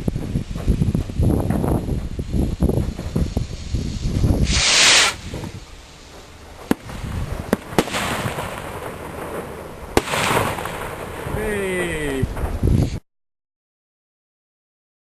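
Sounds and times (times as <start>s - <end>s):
firework bangs: 0.0s - 13.0s
firework hissing whoosh: 0.0s - 13.0s.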